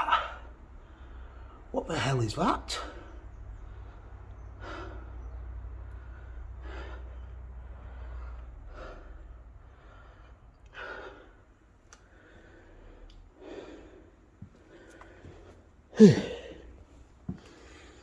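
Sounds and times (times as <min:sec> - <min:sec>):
low steady rumble: 0:00.0 - 0:18.0
man breathing close to microphone: 0:00.4 - 0:01.7, 0:03.0 - 0:18.0.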